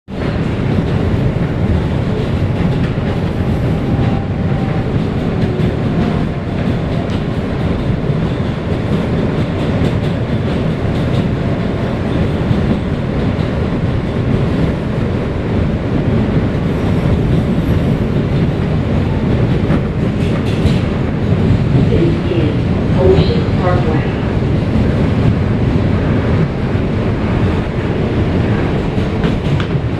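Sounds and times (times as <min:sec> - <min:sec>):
subway car rumbling on track: 0:00.0 - 0:29.9.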